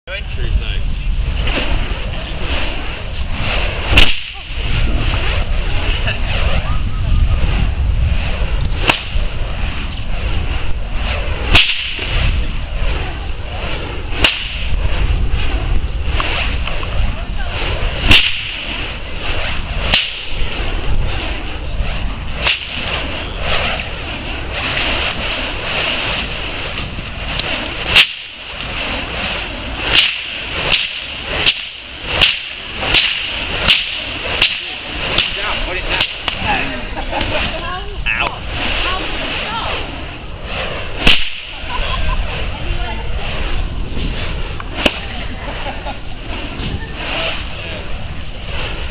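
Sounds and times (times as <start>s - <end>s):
fire whip cracking: 0.1s - 48.9s.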